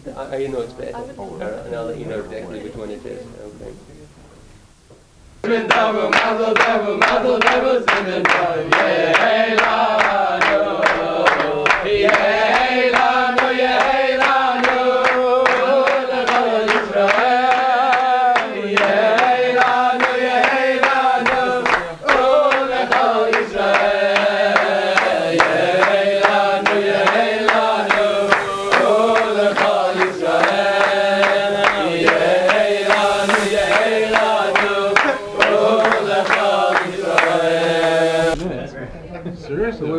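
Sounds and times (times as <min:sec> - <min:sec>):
group singing: 0:05.4 - 0:38.4
hands clapping in time: 0:05.4 - 0:38.4.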